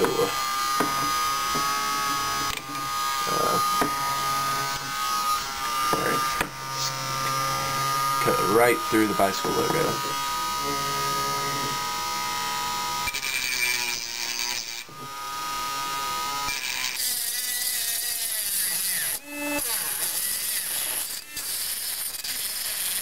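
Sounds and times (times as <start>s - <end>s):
rotary tool motor whine: 0.0s - 23.0s.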